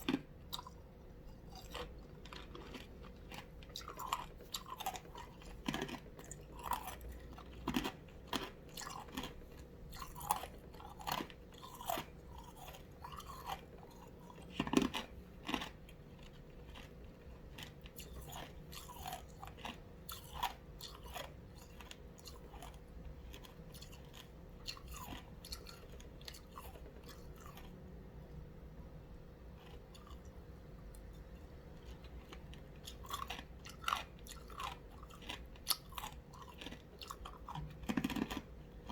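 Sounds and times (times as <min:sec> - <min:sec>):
person crunching ice cubes: 0:01.4 - 0:16.9, 0:17.5 - 0:27.8, 0:31.9 - 0:38.9.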